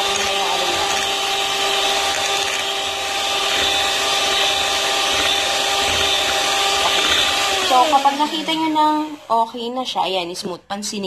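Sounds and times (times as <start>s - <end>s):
electric hand mixer whine: 0.0s - 10.4s.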